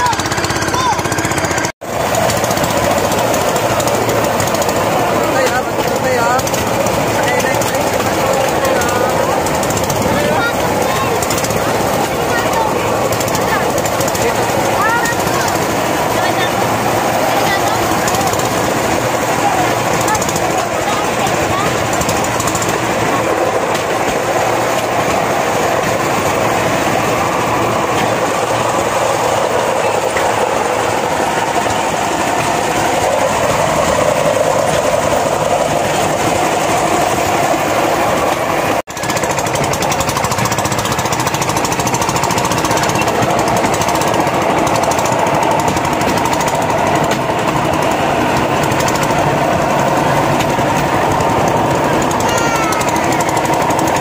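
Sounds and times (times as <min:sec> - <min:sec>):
rail trolley wheels clattering on rails: 0:00.0 - 0:54.0.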